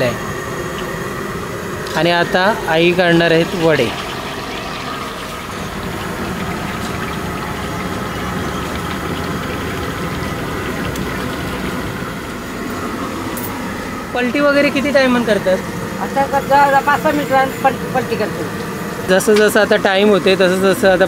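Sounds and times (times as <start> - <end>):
food deep-frying in hot oil: 0.0 - 21.0.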